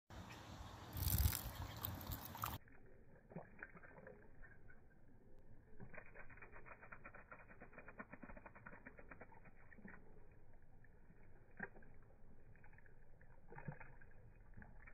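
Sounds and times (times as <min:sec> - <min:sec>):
dog lapping water: 0:01.0 - 0:14.9.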